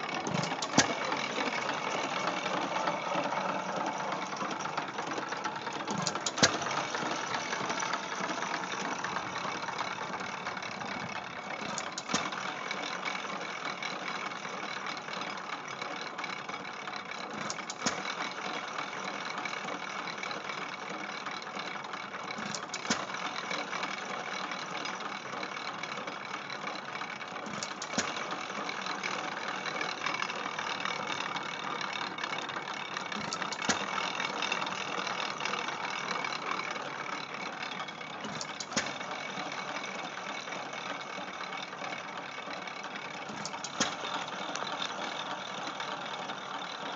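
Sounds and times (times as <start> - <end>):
feed grinder mechanical clatter: 0.0 - 46.9.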